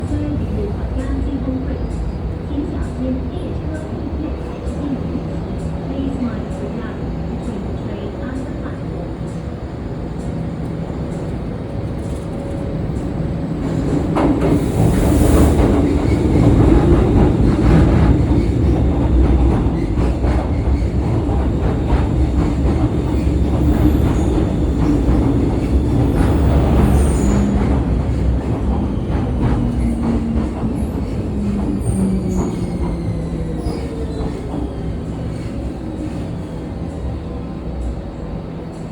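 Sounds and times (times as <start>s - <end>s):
metro train rumbling on rails: 0.0s - 38.9s.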